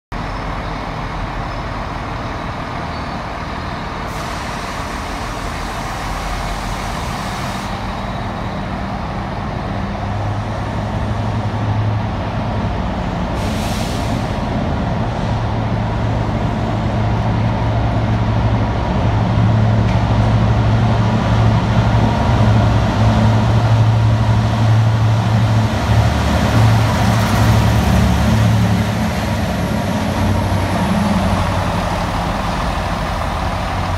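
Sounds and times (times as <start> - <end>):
diesel locomotive engine drone: 0.1 - 33.9.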